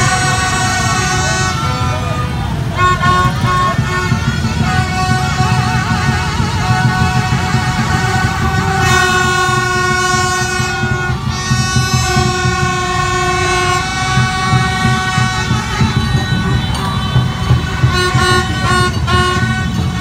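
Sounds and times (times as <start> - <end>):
many horns sounding: 0.0 - 20.0
motorbike engines running: 0.0 - 20.0.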